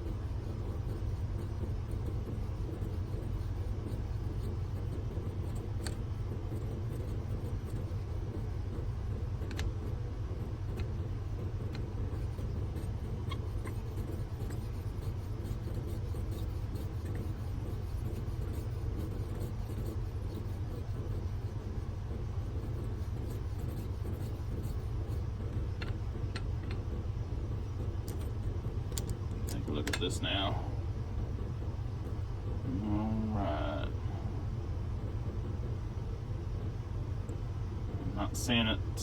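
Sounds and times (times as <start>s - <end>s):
low machine hum: 0.0s - 39.0s.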